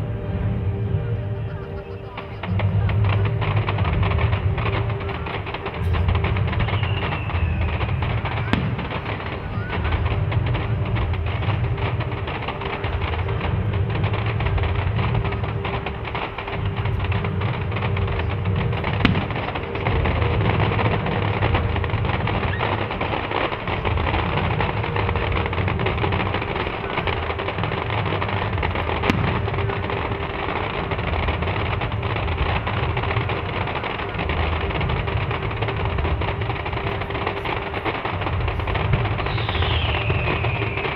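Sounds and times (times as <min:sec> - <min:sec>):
fireworks crackling: 0:00.0 - 0:40.9
low rumble: 0:00.0 - 0:40.9
sharp firework cracks: 0:01.6 - 0:40.9.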